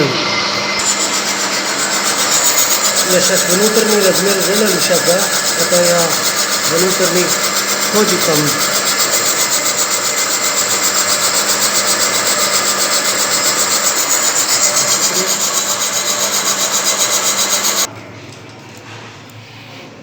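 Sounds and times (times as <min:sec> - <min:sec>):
lathe tool scraping metal: 0:00.0 - 0:17.9
machine running hum: 0:00.0 - 0:17.9.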